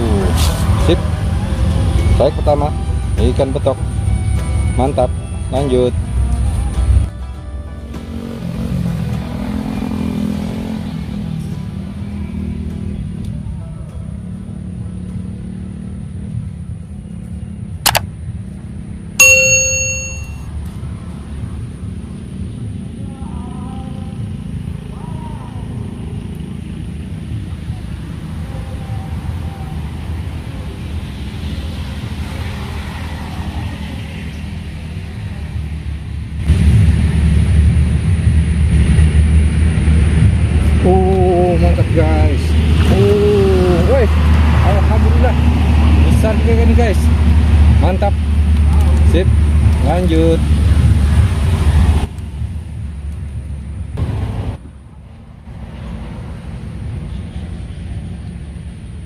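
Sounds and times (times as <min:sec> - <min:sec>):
traffic rumble: 0:00.0 - 0:59.0.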